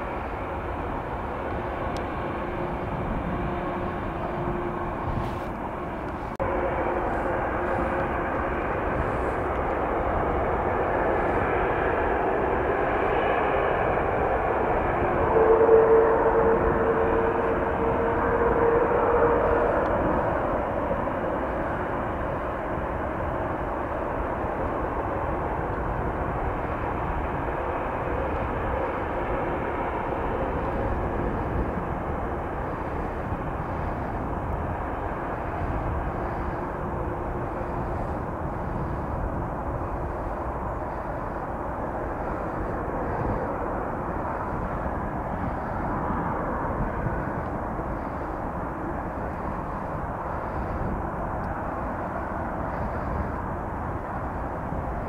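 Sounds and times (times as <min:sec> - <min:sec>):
airliner engines whine and roar: 0:00.0 - 0:55.0.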